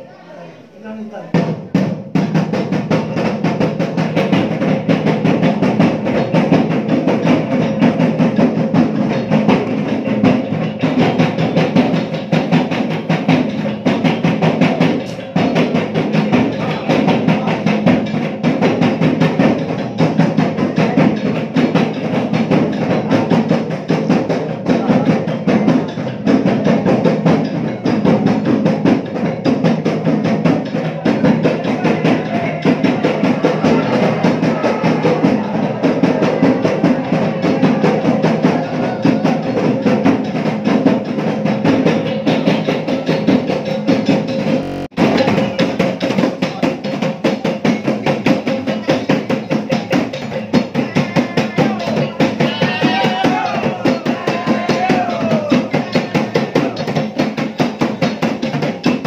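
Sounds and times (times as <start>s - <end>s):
fast drumming: 0.9s - 59.0s.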